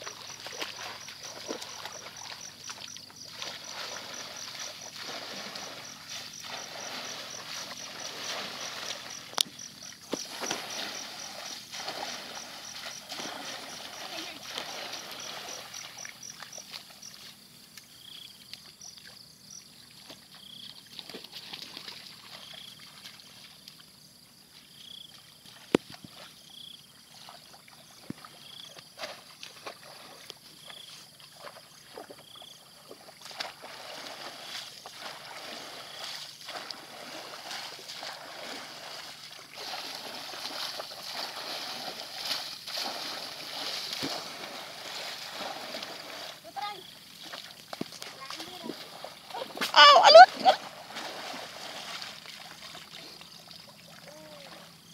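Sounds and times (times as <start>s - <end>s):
water splashing and sloshing: 0.0s - 54.9s.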